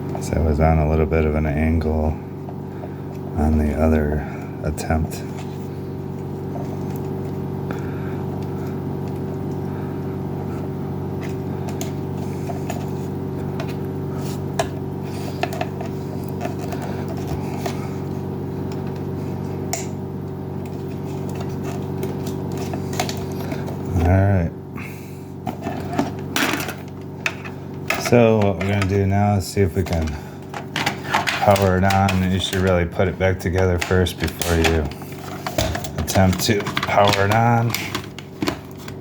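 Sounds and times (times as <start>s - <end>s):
steady tonal hum: 0.0s - 39.0s.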